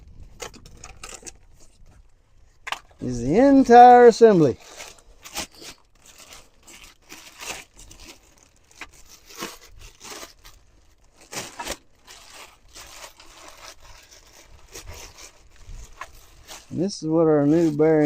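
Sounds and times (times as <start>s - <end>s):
packaging tearing and crinkling: 3.4s - 18.0s.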